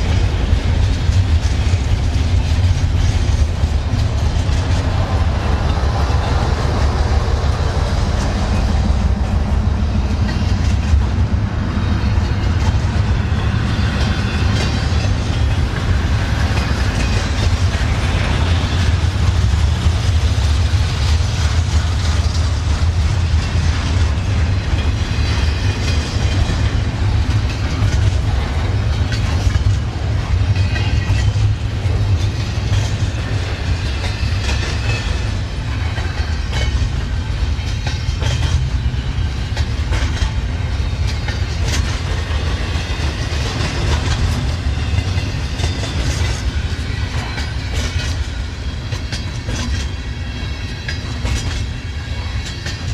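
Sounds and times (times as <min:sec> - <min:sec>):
train cars rumbling past: 0:00.0 - 0:52.9
wheels clicking over rail joints: 0:00.0 - 0:52.9.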